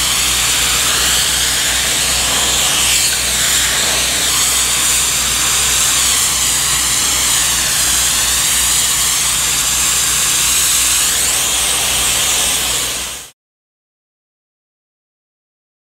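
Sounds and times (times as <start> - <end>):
steam blasting through a lance: 0.0 - 13.3.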